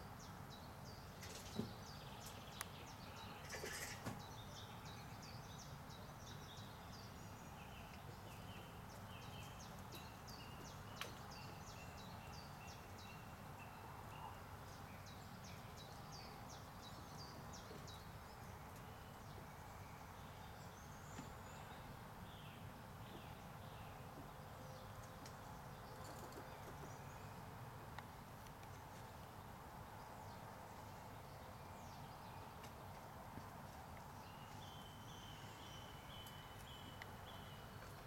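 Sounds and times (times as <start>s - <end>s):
low outdoor background noise: 0.0s - 38.0s
small birds chirping: 0.0s - 38.0s.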